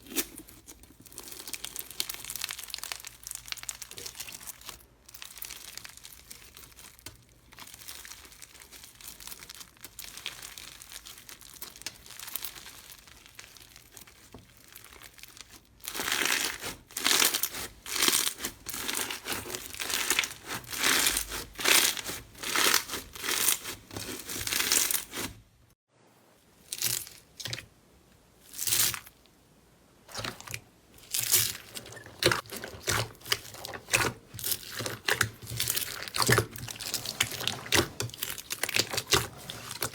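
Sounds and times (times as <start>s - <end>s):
slime crackling: 0.0s - 25.4s, 30.1s - 39.9s
slime squishes: 0.0s - 25.6s, 30.1s - 39.9s.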